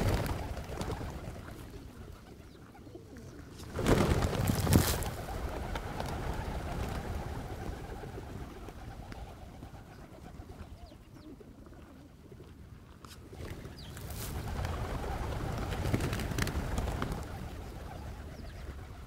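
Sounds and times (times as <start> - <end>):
flock of pigeons cooing: 0.0 - 19.0.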